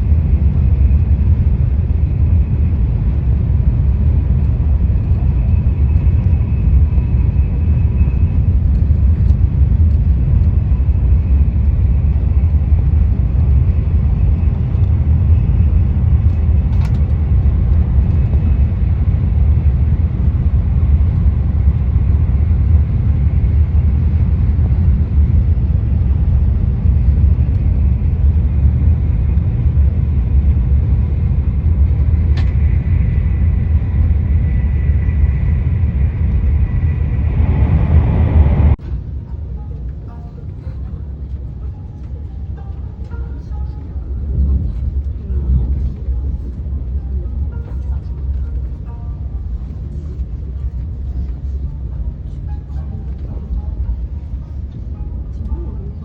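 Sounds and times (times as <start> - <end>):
train rumbling inside cabin: 0.0 - 56.0.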